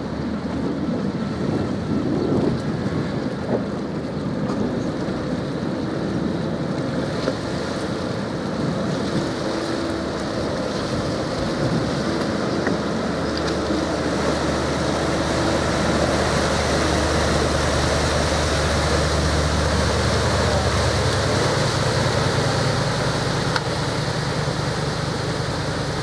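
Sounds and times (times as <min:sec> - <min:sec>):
boat diesel engines running: 0:00.0 - 0:26.0
propeller wash churning water: 0:00.0 - 0:26.0.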